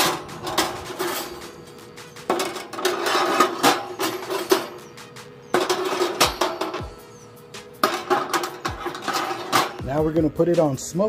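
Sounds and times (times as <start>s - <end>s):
metal grill grates clanking: 0.0s - 10.7s.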